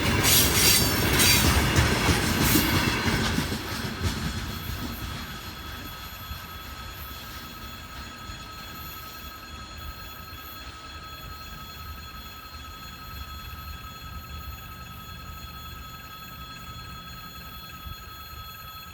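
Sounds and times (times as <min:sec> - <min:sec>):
distant train rumble: 0:00.0 - 0:18.9.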